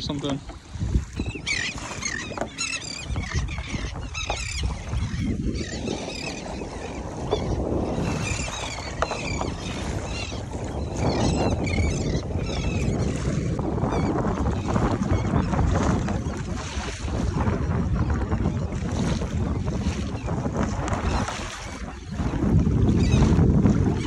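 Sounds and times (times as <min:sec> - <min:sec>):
choppy water against kayak: 0:00.0 - 0:24.0
seabirds calling: 0:00.0 - 0:24.0.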